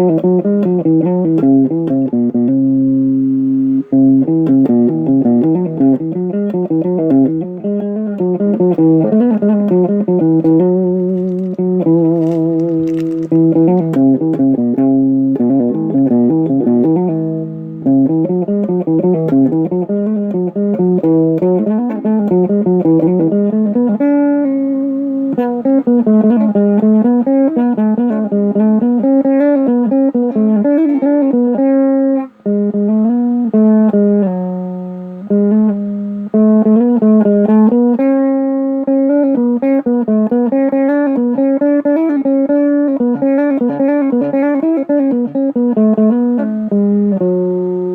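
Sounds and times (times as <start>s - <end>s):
plucked guitar melody: 0.0s - 47.9s.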